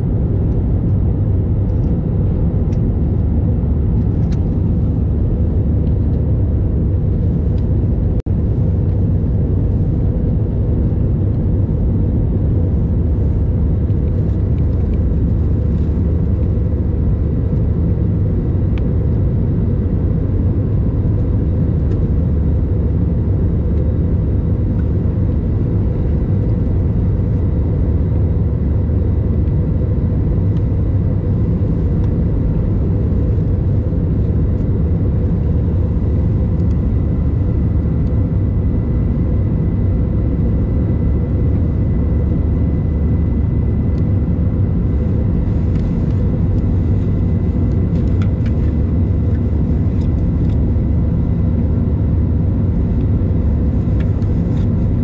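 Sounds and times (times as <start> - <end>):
airliner cabin engine drone: 0.0 - 55.0.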